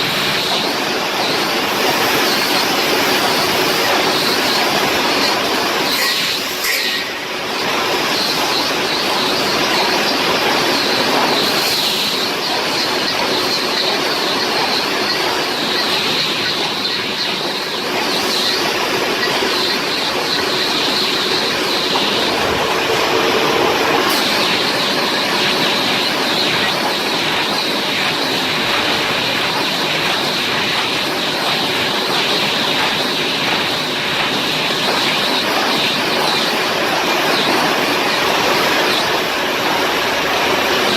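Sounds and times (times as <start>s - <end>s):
welding machine clatter and hiss: 0.0s - 40.9s.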